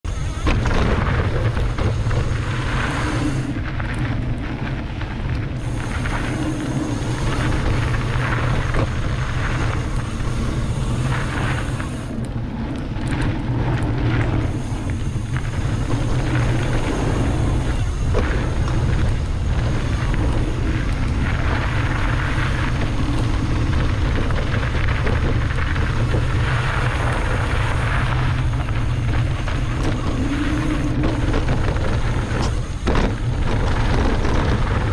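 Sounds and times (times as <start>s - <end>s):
wind buffeting microphone: 0.0s - 34.9s
bike tyres rumbling over dirt: 0.1s - 34.9s.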